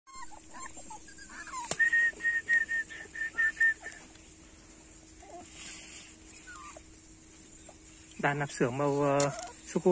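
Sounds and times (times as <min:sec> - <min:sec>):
puppies whimpering: 0:00.1 - 0:04.2, 0:05.1 - 0:09.9.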